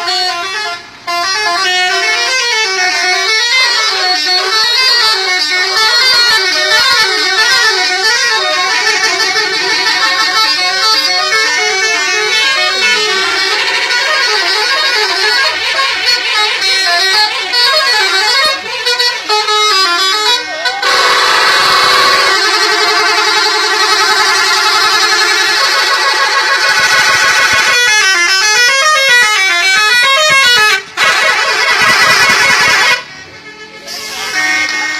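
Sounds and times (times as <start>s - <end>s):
multi-tone musical bus horn: 0.0s - 34.9s.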